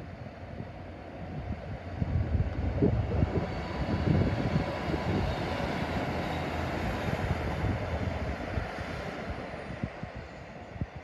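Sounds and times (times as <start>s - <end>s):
train passing platform rumbling: 0.0s - 11.0s.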